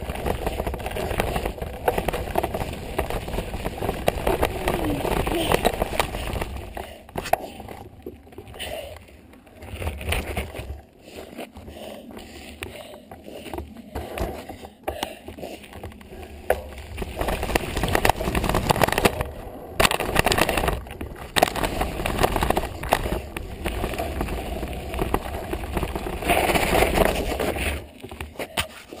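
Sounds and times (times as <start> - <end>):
bike knocks and rattles: 0.0 - 10.8, 13.4 - 28.8
wind and tyre noise: 0.0 - 29.0.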